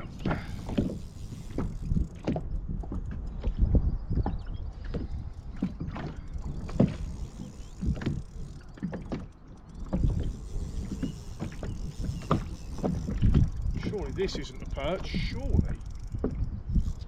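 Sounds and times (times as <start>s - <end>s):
wind rumble on microphone: 0.0s - 17.0s
water slapping against boat hull: 1.6s - 15.4s.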